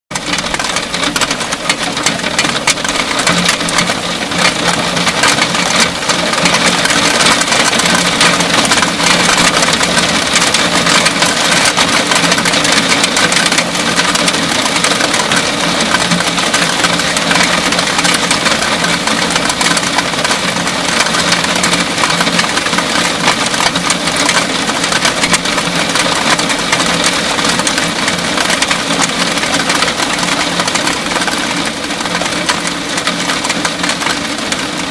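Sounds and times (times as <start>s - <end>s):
heavy rain on a roof: 0.1s - 34.9s.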